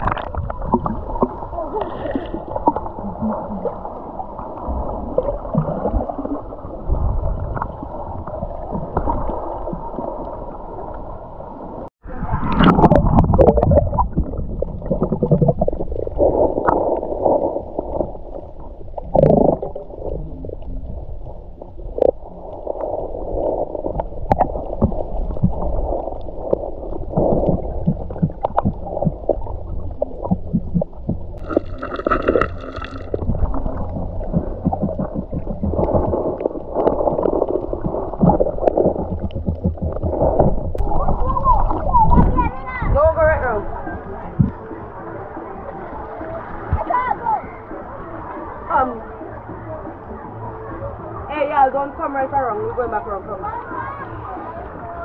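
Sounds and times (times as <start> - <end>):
bubbles: 0.0 - 44.8
rush of water: 0.0 - 55.0
underwater gurgling: 0.0 - 55.0.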